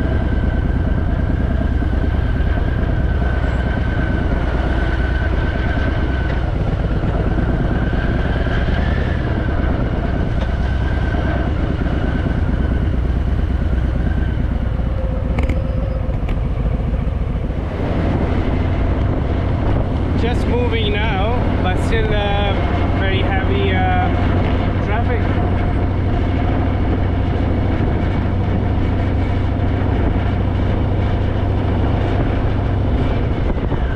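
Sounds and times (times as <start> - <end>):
motorcycle engine low rumble: 0.0 - 33.9.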